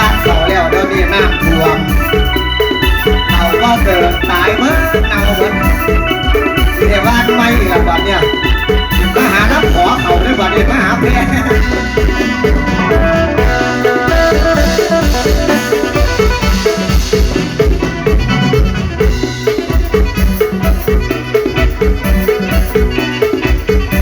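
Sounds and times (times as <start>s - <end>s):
drum kit beat: 0.0s - 24.0s
plucked lead melody: 0.0s - 24.0s.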